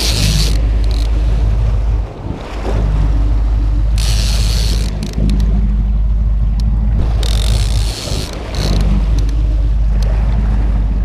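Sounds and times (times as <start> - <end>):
boat motor humming: 0.0 - 11.0
wind on microphone: 0.0 - 11.0.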